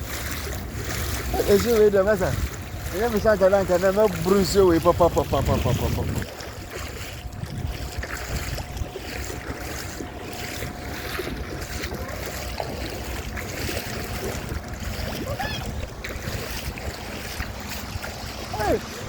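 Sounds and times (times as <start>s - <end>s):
water washing: 0.0s - 19.0s
wind buffeting microphone: 0.0s - 19.0s.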